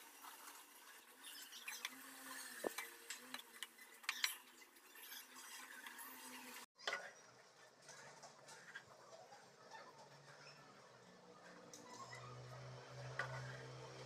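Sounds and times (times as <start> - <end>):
spatula scraping in a pan: 0.0 - 7.2, 9.6 - 14.0.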